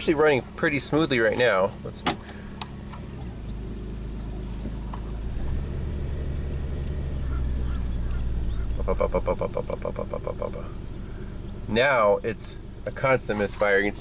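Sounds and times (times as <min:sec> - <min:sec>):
misfiring car engine drone: 0:00.0 - 0:14.0.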